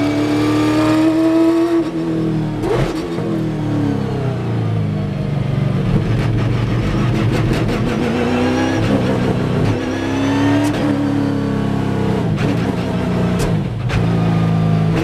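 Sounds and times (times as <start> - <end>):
car engine heard from inside cabin: 0.0 - 15.0.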